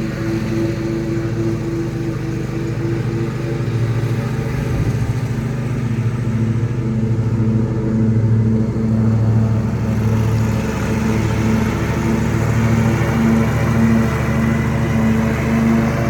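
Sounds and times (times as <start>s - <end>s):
riding lawnmower engine: 0.0s - 16.0s.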